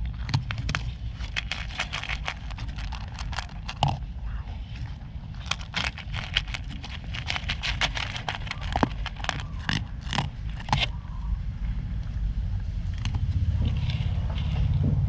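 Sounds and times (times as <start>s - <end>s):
pet crunching dry food: 0.0s - 11.2s, 11.9s - 15.0s
steady low rumble: 0.0s - 15.0s.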